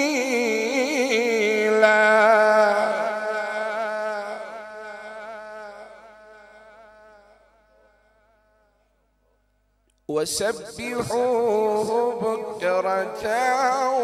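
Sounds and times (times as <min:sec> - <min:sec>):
man reciting melodically: 0:00.0 - 0:07.4, 0:10.1 - 0:14.0.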